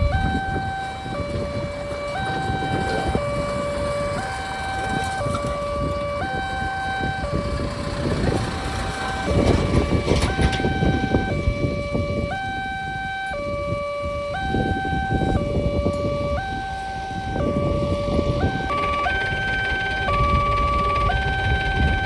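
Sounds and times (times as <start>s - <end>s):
rough noisy rumble: 0.0s - 22.0s
two-tone crossing alarm siren: 0.0s - 22.0s.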